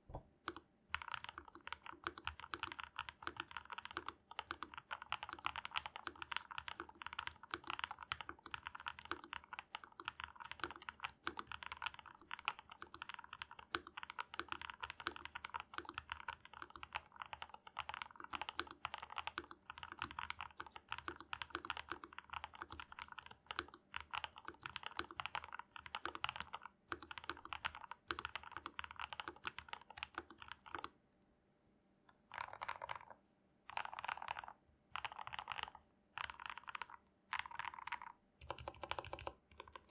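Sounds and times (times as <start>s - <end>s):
mechanical keyboard typing: 0.5s - 30.9s, 32.1s - 39.9s.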